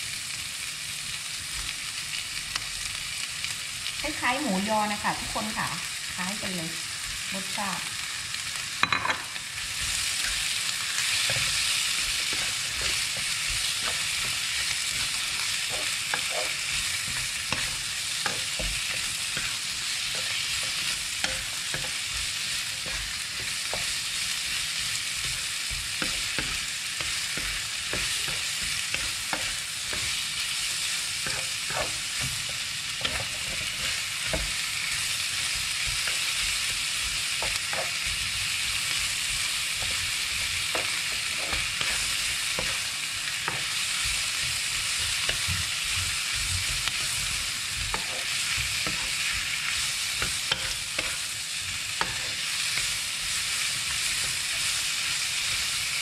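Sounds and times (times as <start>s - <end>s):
sausage sizzling in oil: 0.0s - 56.0s
spatula clicking and scraping pan: 8.4s - 56.0s.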